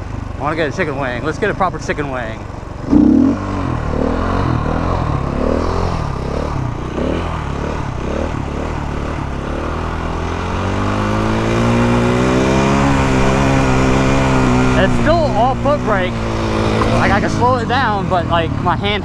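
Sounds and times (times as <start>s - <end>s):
motorcycle engine under throttle: 0.0s - 18.7s.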